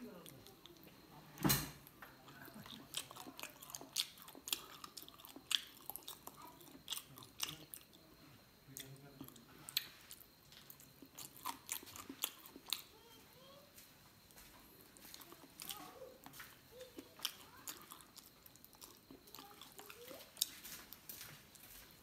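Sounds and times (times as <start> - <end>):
chewing crunches: 2.1 - 8.0, 8.8 - 13.0, 14.2 - 22.0.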